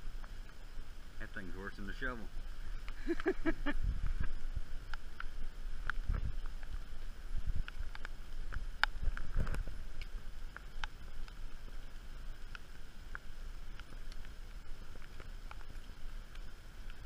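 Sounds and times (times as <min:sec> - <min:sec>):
light rain ticking: 0:00.0 - 0:17.0.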